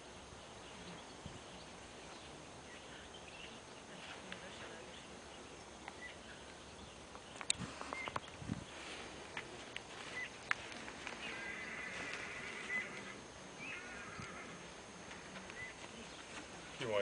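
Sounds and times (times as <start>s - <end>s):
steady hiss: 0.0s - 17.0s
distant bird chirps: 0.3s - 16.8s.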